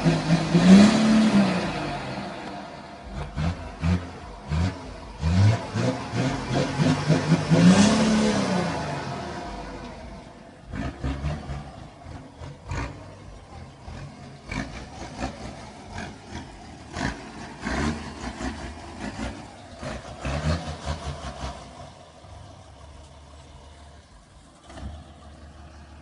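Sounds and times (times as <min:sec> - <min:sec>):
pickup engine idling with throttle blips: 0:00.0 - 0:26.0.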